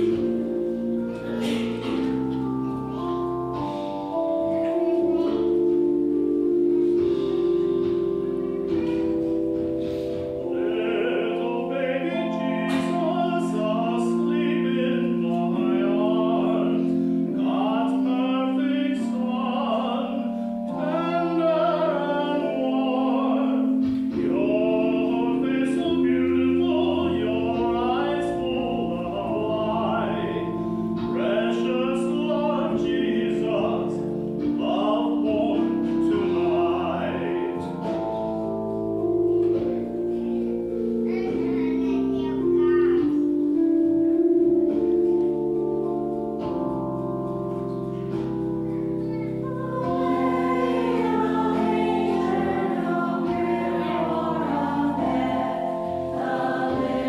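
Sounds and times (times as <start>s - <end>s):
person singing slow song: 0.0s - 43.6s, 44.7s - 57.0s
sustained instrumental chords: 0.0s - 57.0s.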